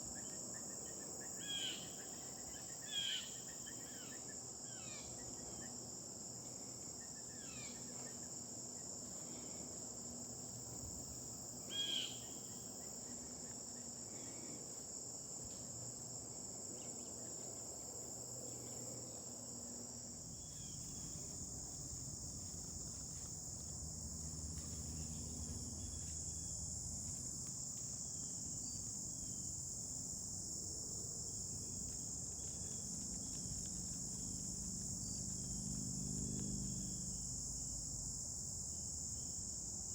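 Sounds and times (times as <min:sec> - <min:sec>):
insects trilling: 0:00.0 - 0:15.1, 0:16.0 - 0:39.9.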